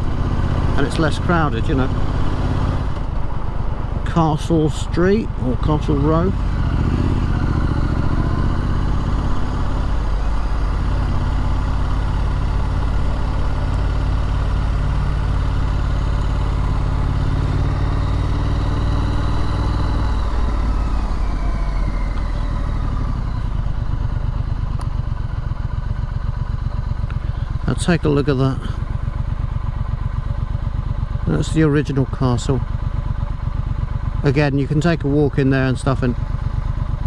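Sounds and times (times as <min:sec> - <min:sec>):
motorcycle engine running at low revs: 0:00.0 - 0:37.0.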